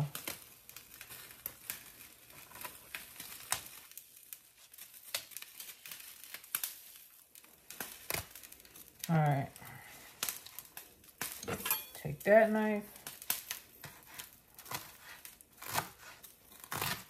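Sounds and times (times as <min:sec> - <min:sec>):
leaves rustling and crinkling: 0:00.0 - 0:17.0.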